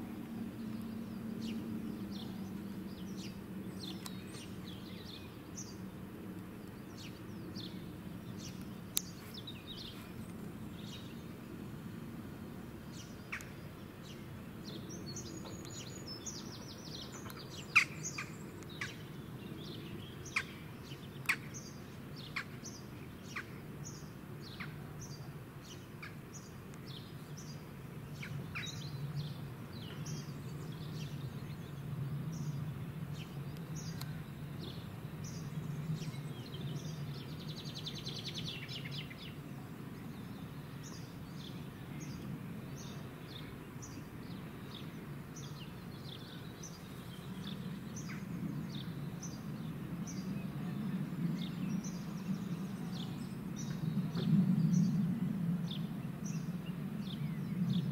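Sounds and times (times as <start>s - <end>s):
small birds chirping: 0.0s - 55.1s.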